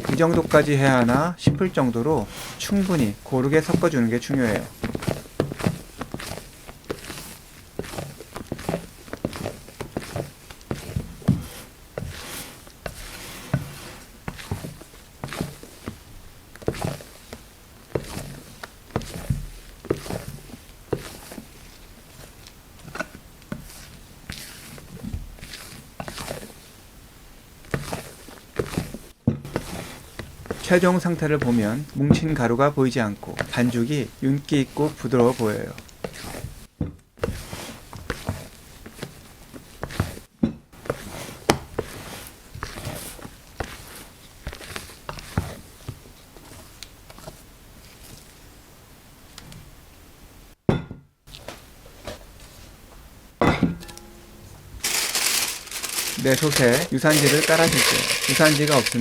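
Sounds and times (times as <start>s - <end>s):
batter mixed by hand in bowl: 0.0s - 48.6s, 54.8s - 59.0s.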